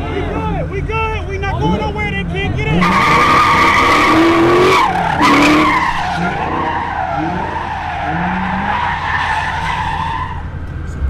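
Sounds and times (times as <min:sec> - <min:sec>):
car tyres squealing: 0:00.0 - 0:10.6
engine rumble: 0:00.0 - 0:11.0.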